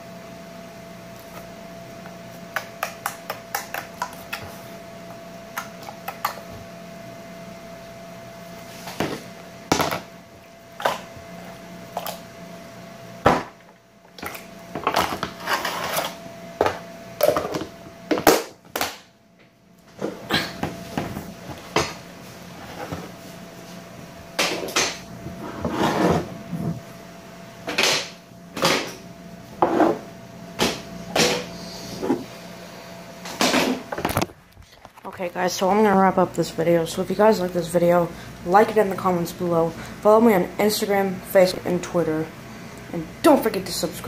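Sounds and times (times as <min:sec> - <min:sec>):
steady appliance hum: 0:00.0 - 0:44.0.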